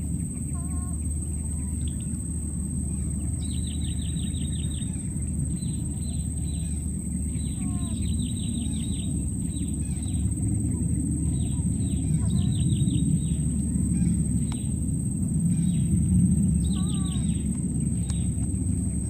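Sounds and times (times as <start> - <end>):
steady high-pitched whine: 0.0 - 19.0
steady low rumble: 0.0 - 19.0.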